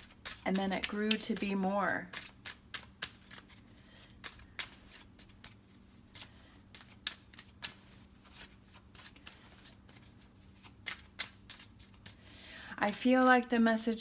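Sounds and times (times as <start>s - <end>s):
cards being shuffled: 0.0s - 12.2s, 12.8s - 13.6s.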